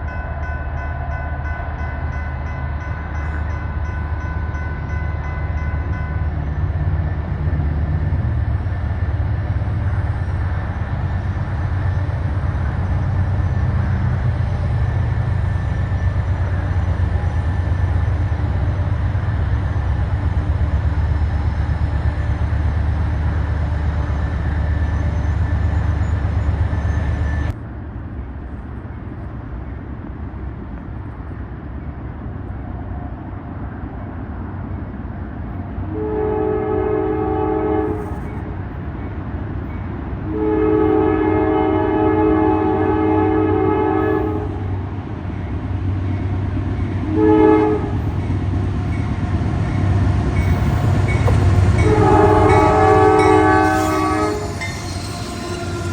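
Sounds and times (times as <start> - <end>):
diesel train rumbling past: 0.0 - 55.9.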